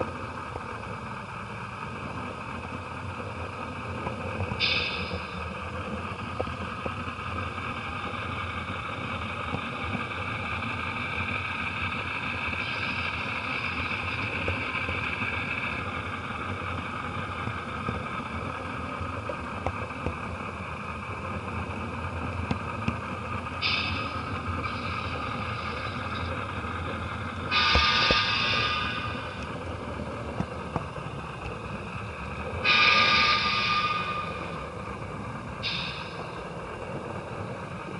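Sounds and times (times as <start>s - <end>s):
model train rolling hum: 0.0s - 37.9s
wheels clicking over rail joints: 0.0s - 37.9s.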